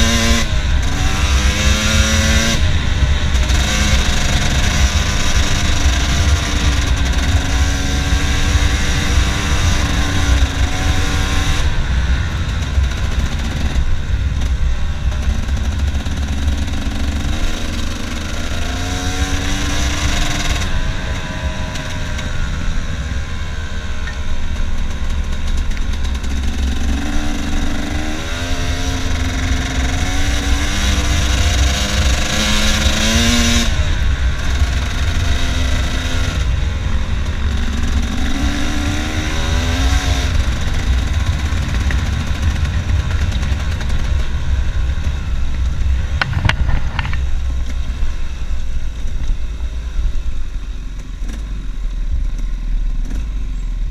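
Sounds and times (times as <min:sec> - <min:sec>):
dirt bike engine revving: 0:00.0 - 0:49.7
wind rumble on microphone: 0:00.0 - 0:53.9.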